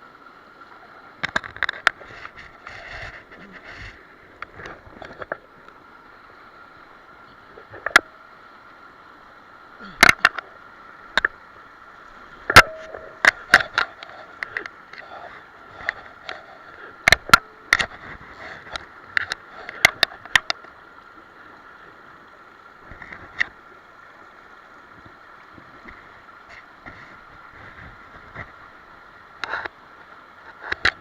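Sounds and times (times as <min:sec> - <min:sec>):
mountain stream rushing: 0:00.0 - 0:31.0.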